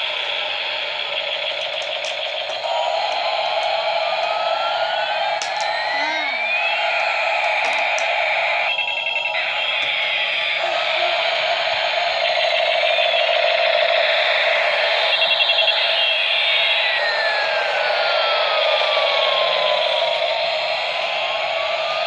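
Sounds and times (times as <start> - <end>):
rapid beeping: 0.0 - 22.0
siren-like toy tones: 0.0 - 22.0
steady whir: 0.0 - 22.0.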